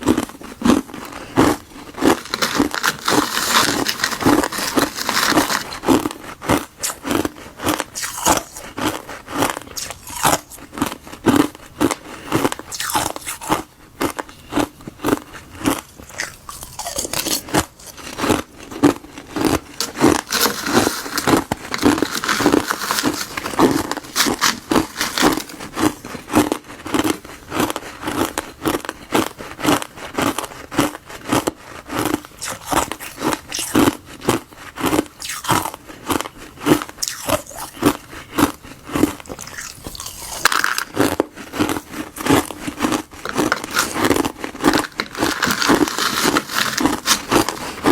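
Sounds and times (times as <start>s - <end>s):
crunchy chewing: 0.0s - 47.9s.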